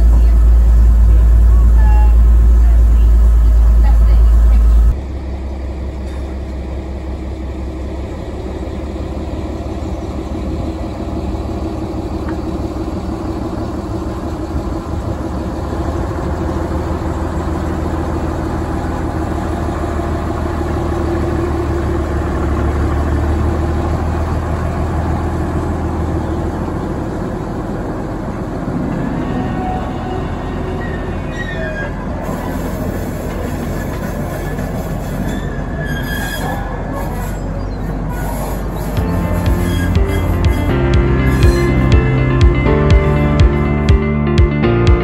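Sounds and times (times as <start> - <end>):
diesel locomotive engine running: 0.0 - 45.0.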